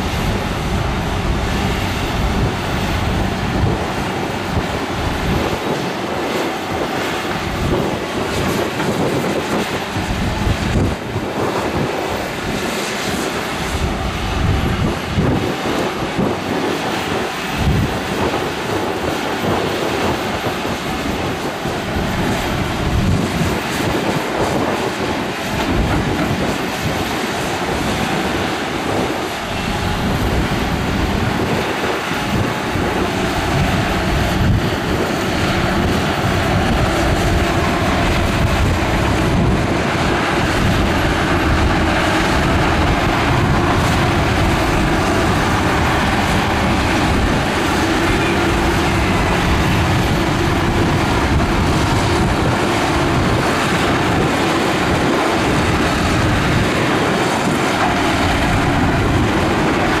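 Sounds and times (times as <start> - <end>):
heavy machinery diesel engines: 0.0 - 60.0.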